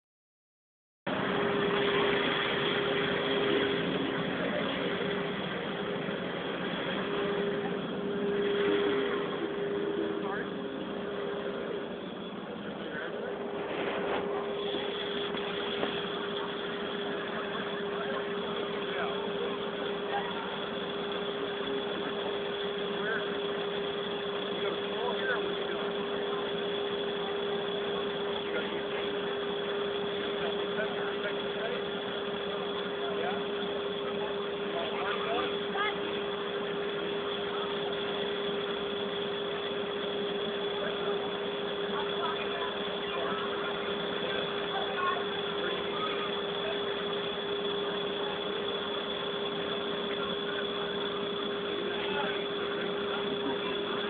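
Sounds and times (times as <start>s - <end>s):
constant hum: 1.1s - 54.0s
crowd noise: 1.1s - 54.0s
faint high whine: 1.1s - 54.0s
street traffic: 1.1s - 54.0s.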